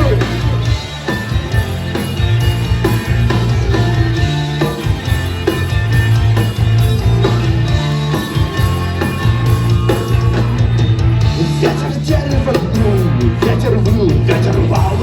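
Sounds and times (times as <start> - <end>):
drum kit beat: 0.0 - 15.0
electric guitar: 0.0 - 15.0
heavy bass: 0.0 - 15.0.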